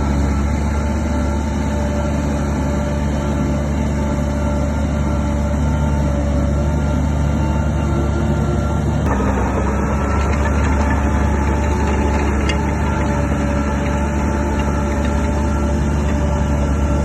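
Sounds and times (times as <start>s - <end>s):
bulldozer diesel engine rumbling: 0.0s - 17.0s.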